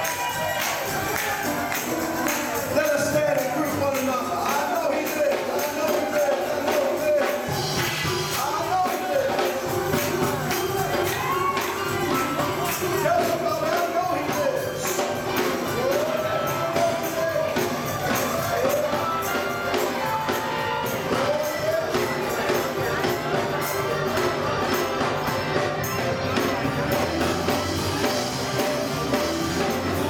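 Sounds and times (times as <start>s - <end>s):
live gospel music: 0.0s - 30.0s
tambourine jingling: 0.0s - 30.0s.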